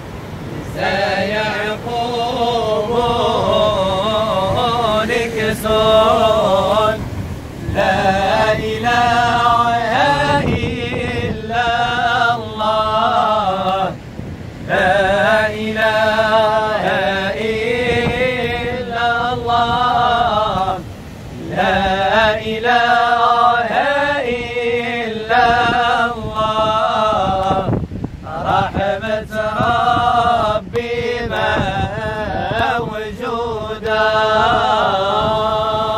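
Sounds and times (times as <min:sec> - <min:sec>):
men singing devotional song: 0:00.3 - 0:35.9.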